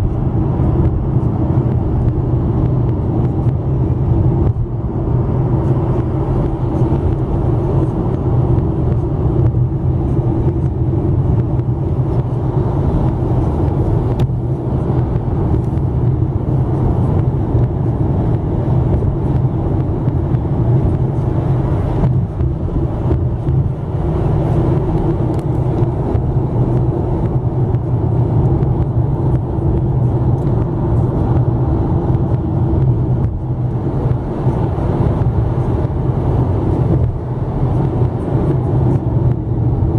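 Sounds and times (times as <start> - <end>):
car engine hum: 0.0 - 39.9
road and tyre rumble: 0.0 - 39.9.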